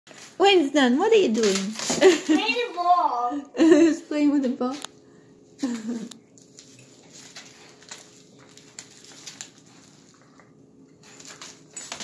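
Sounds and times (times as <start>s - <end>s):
faint steady hum: 0.1s - 12.0s.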